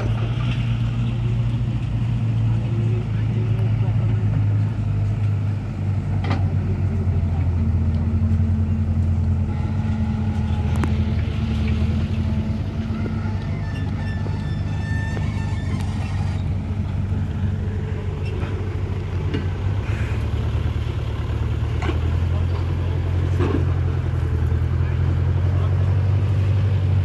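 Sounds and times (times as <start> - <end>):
diesel engines droning: 0.0 - 27.0.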